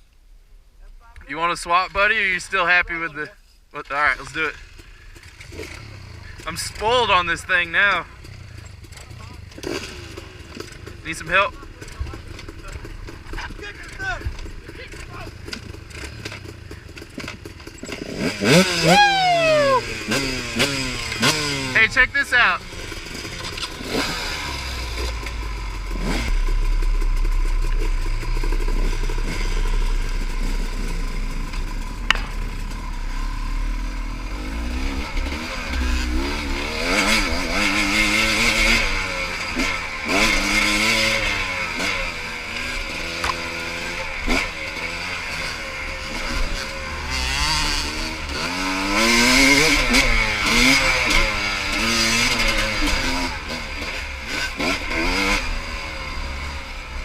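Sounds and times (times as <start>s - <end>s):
pit bike engine revving: 4.1s - 57.0s.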